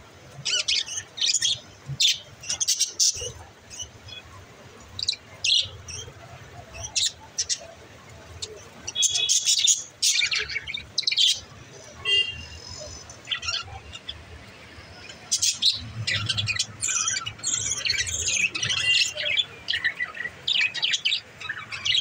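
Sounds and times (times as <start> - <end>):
budgerigars chirping and chattering: 0.4 - 22.0.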